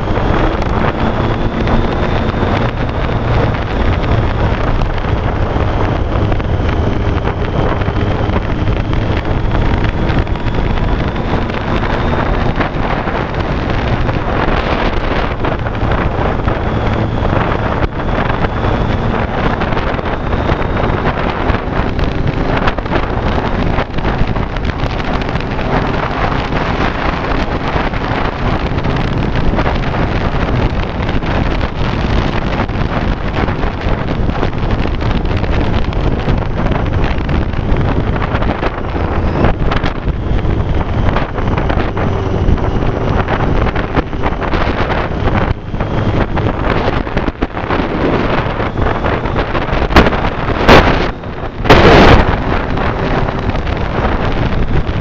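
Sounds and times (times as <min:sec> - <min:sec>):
faint motorcycle engine: 0:00.0 - 0:55.0
wind noise on microphone: 0:00.0 - 0:55.0.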